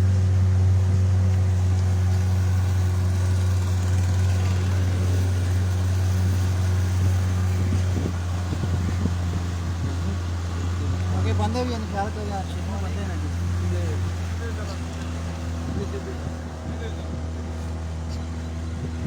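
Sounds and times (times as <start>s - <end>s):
motorboat engine droning: 0.0s - 19.0s.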